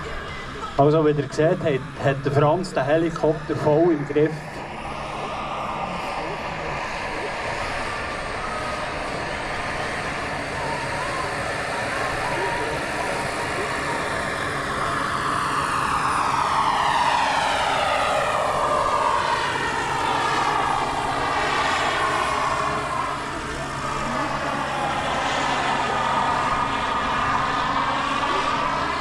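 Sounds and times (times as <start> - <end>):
model helicopter engine whine: 0.0 - 29.0.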